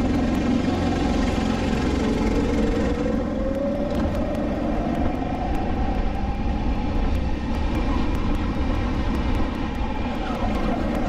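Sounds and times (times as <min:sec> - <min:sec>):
kart engine at racing speed: 0:00.0 - 0:11.0.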